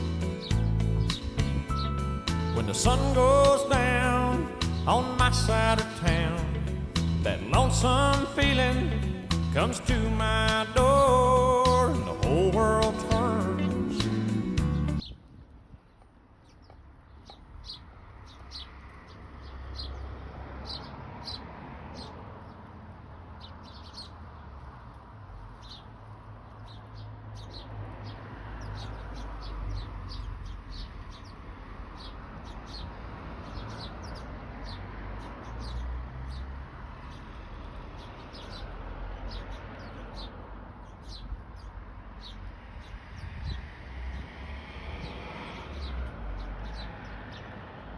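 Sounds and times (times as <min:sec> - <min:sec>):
small birds chirping: 0:00.0 - 0:44.4, 0:45.0 - 0:47.9.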